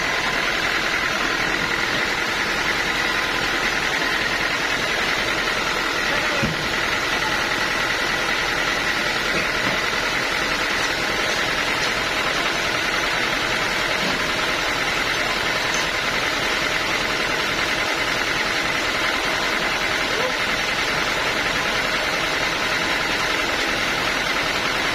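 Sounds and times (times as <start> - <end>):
sawmill machinery running: 0.0 - 24.9.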